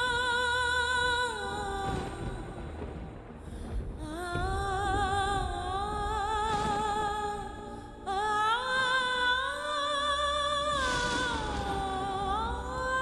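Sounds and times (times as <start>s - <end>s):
slow sung melody: 0.0s - 13.0s.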